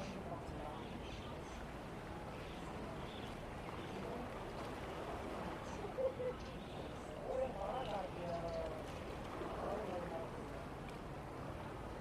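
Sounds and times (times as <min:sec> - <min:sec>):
faint voices of passers-by: 0:00.0 - 0:11.0.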